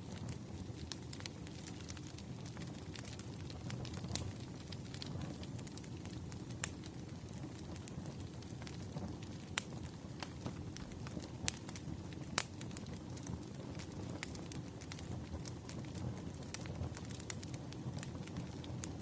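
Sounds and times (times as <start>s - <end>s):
campfire crackling: 0.0s - 19.0s
burning wood popping: 0.1s - 19.0s.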